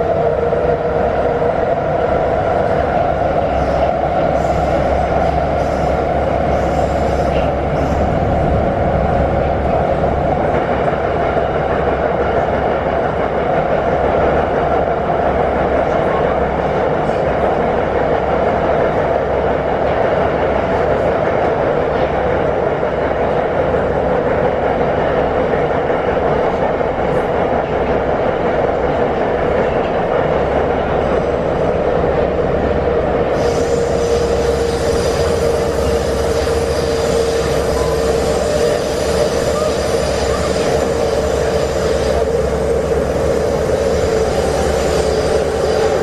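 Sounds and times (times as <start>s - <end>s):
metro train wheels roaring on rails: 0.0s - 46.0s.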